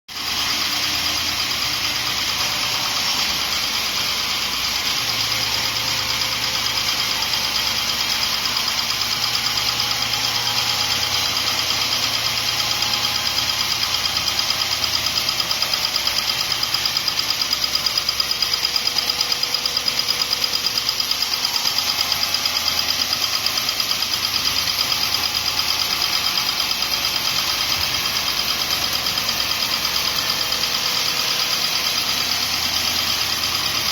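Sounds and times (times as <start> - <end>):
band sawmill running: 0.1 - 33.9.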